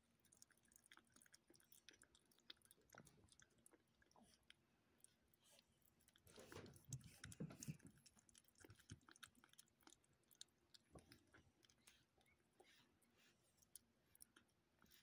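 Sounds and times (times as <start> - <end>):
kitten chewing wet food: 0.0 - 15.0.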